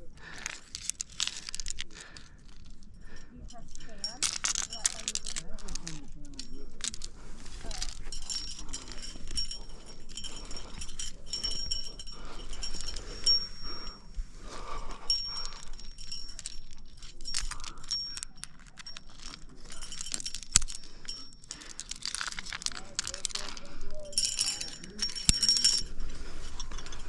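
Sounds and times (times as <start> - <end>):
climbing gear jangling and clinking: 0.0 - 27.0
carabiner metal click: 0.4 - 2.8, 3.7 - 14.0, 14.9 - 25.9.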